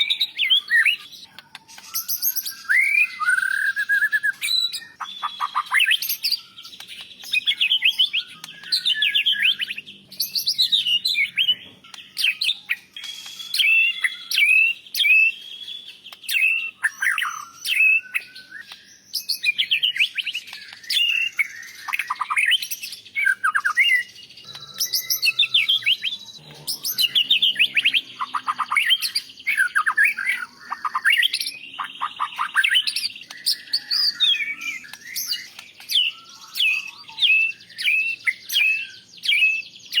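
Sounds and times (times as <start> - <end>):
bird singing chirps and trills: 0.0 - 40.0.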